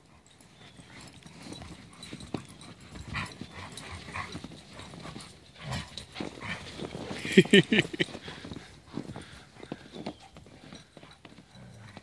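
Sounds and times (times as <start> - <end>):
paw steps and scuffling in snow: 0.4 - 12.0.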